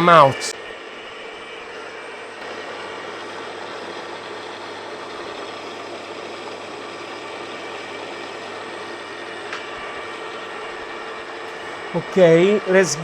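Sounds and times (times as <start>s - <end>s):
grinding machine whirring: 0.0s - 13.0s.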